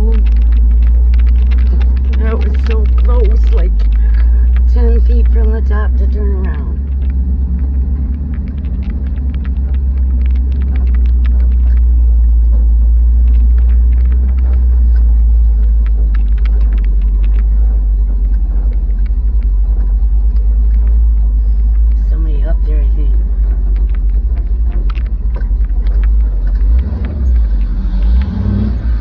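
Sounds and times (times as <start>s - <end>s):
clicks and rattles in cab: 0.0s - 29.0s
truck engine low rumble: 0.0s - 29.0s.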